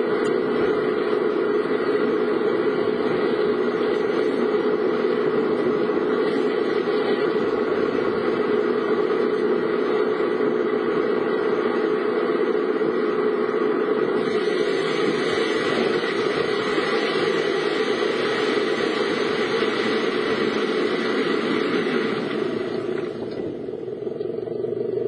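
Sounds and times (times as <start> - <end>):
continuous hiss: 0.0 - 24.0.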